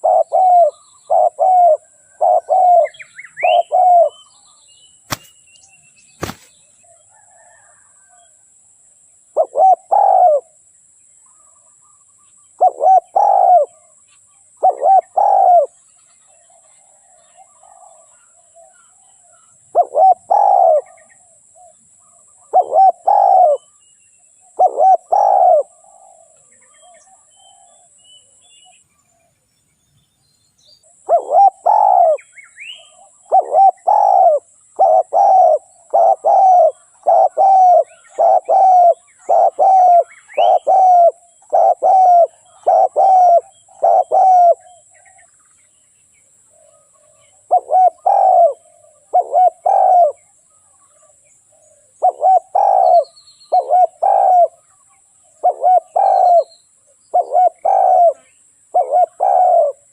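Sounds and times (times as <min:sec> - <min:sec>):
dove cooing: 0:00.0 - 0:04.3, 0:06.2 - 0:08.2, 0:09.3 - 0:10.6, 0:12.5 - 0:14.0, 0:14.6 - 0:23.8, 0:24.4 - 0:28.0, 0:30.9 - 0:45.2, 0:46.5 - 0:50.3, 0:50.9 - 0:54.7, 0:55.3 - 0:59.9
small birds chirping: 0:00.0 - 0:07.6, 0:11.2 - 0:59.9.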